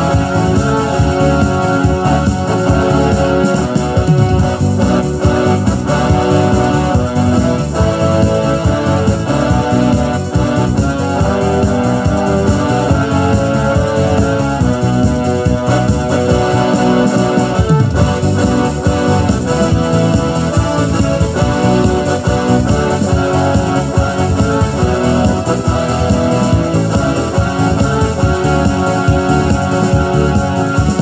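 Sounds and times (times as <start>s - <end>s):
electronic keyboard gospel melody: 0.0s - 31.0s.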